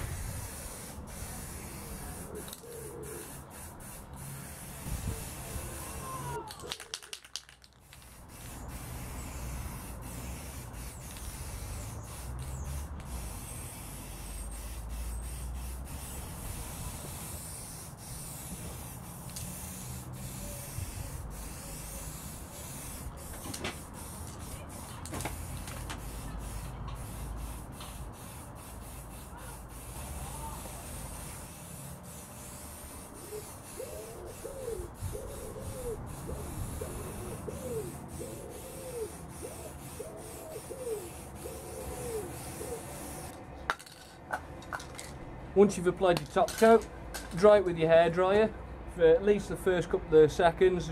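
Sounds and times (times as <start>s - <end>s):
aerosol spray hissing: 0.0s - 6.4s, 7.8s - 43.3s.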